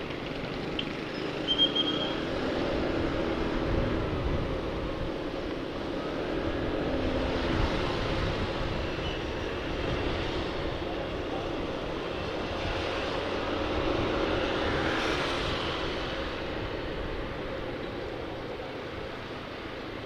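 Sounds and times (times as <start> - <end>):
wind rushing over microphone: 2.4 - 20.0.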